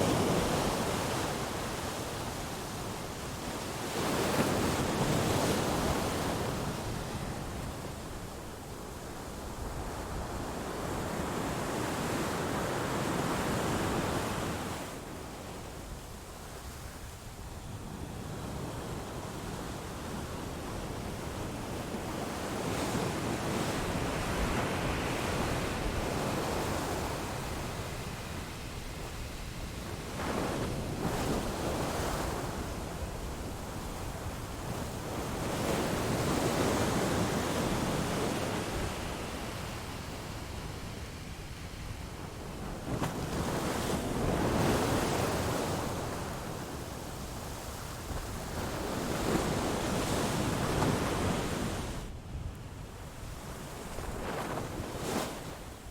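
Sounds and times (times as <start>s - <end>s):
waves washing onto shore: 0.0s - 52.2s.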